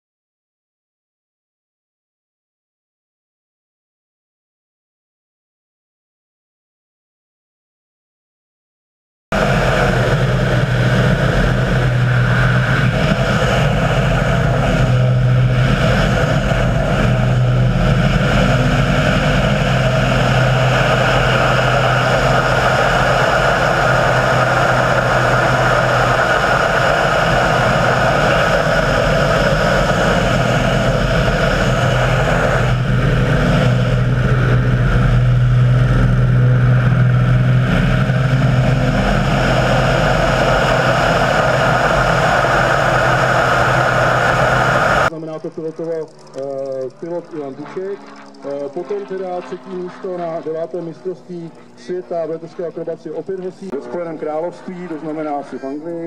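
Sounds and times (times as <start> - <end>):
model aircraft engine running: 9.4 - 56.0.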